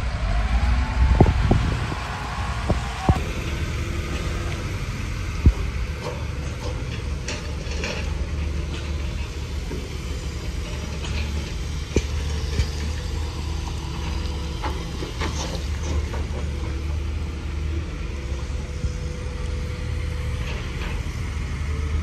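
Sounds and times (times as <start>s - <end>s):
diesel machinery rumble: 0.0s - 22.0s.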